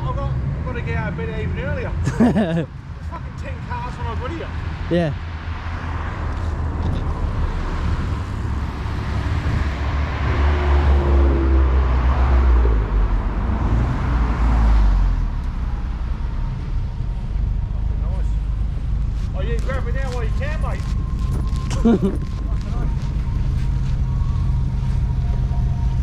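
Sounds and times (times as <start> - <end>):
car driving past: 4.4 - 26.0.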